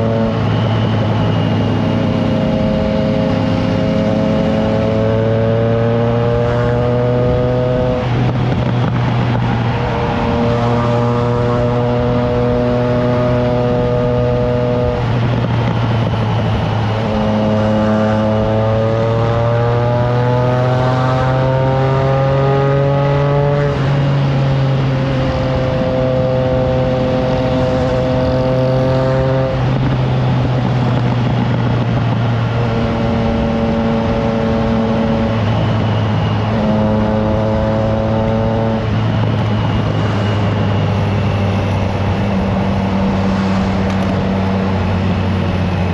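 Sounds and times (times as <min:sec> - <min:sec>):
motorcycle engine while riding: 0:00.0 - 0:45.9
wind noise on microphone: 0:00.0 - 0:45.9.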